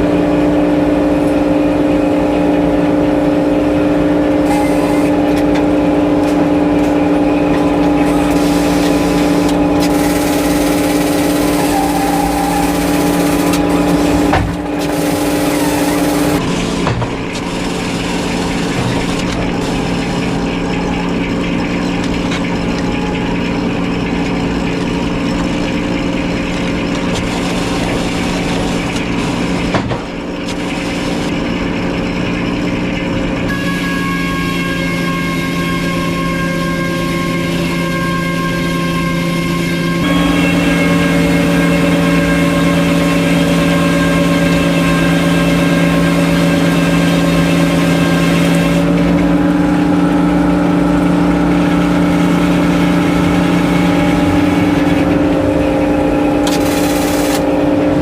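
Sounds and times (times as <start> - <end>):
high whining tones: 0.0 - 58.0
sawmill engine running: 0.0 - 58.0.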